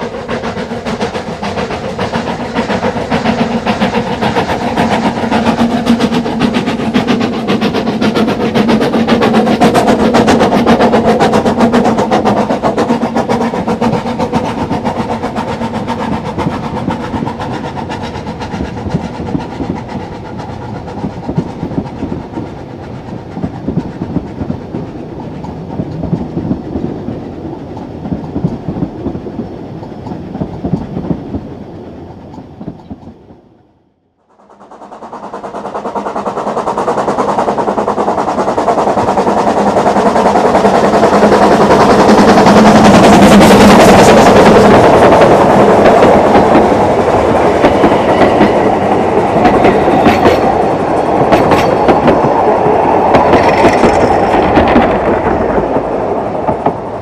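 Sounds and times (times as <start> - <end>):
steam train running: 0.0 - 57.0.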